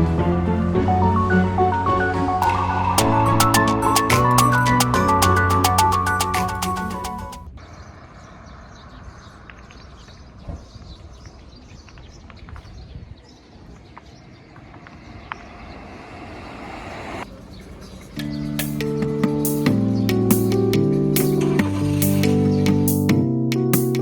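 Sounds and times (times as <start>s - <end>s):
steady outdoor noise: 0.0s - 22.4s.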